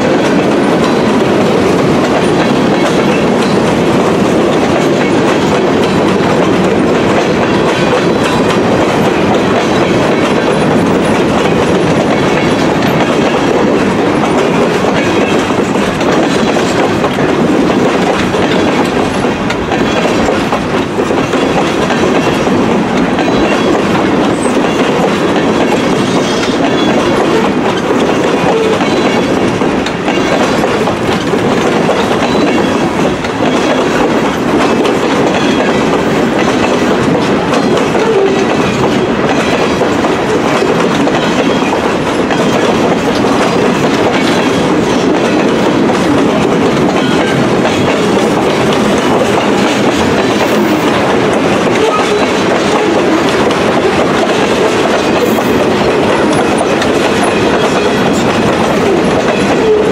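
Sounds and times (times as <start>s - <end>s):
freight train wheels clattering on rails: 0.0s - 59.9s.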